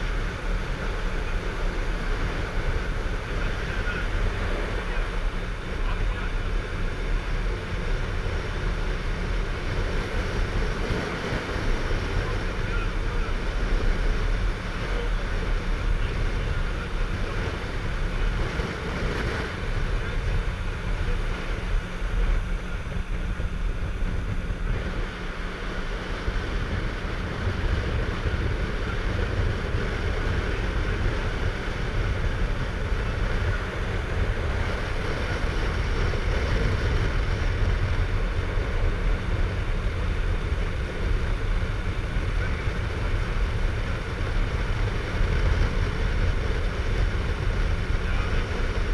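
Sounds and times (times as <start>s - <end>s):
boat engine running: 0.0s - 48.9s
wind on microphone: 0.0s - 48.9s.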